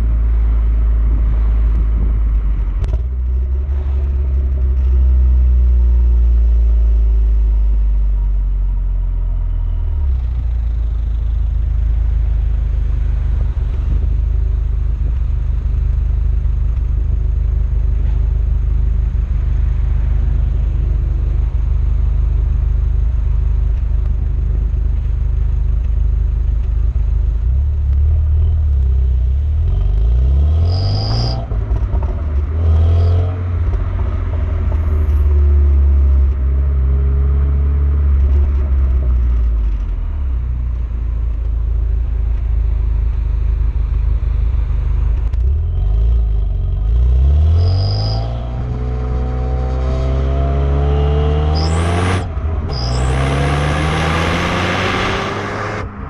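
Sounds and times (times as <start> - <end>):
car engine revving: 9.8 - 40.4, 41.0 - 56.0.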